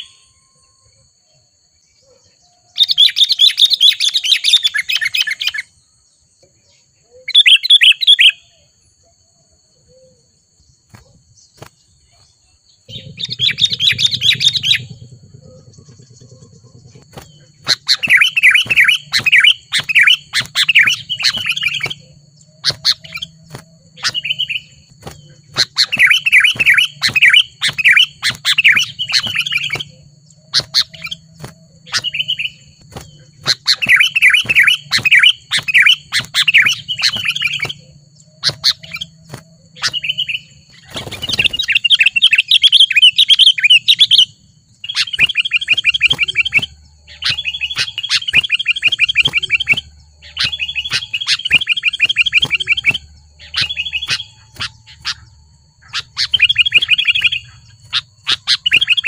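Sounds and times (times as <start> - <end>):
birds chirping: 0.0 - 59.0
steady low hum: 8.6 - 59.0.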